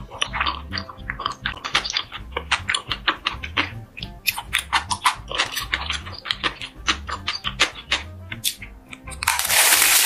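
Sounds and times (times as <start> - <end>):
wet chewing and mouth clicks: 0.0 - 9.5
soft background music: 0.0 - 10.0.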